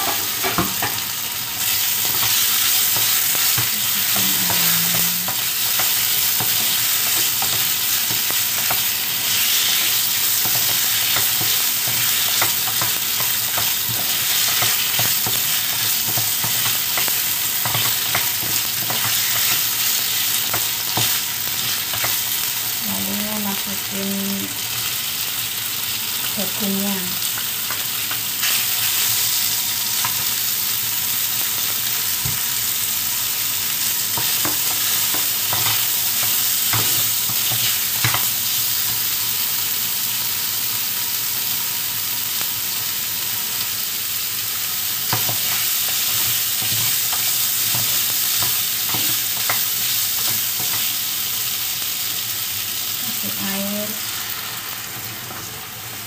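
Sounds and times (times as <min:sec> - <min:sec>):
meat sizzling in a wok: 0:00.0 - 0:56.0.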